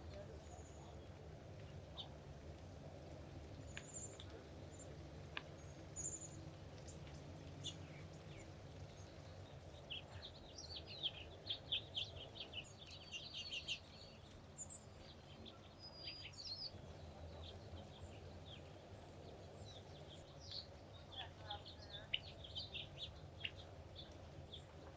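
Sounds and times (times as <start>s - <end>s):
wild birds chirping: 3.0s - 24.9s.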